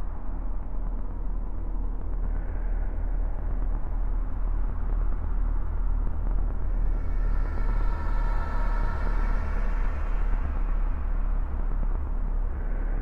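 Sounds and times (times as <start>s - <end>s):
low rumbling drone: 0.0s - 13.0s.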